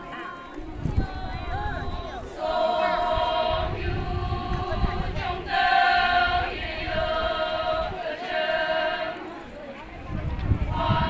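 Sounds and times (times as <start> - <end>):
women singing a chant in unison: 0.0 - 11.0.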